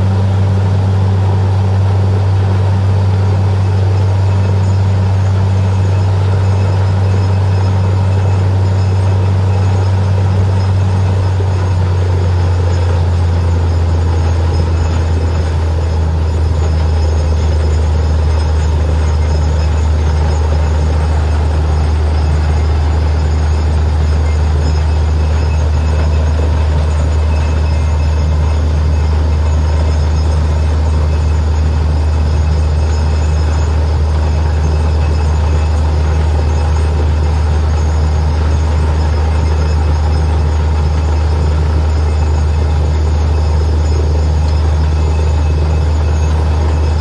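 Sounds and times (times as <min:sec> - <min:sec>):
drilling rig engine drone: 0:00.0 - 0:47.0.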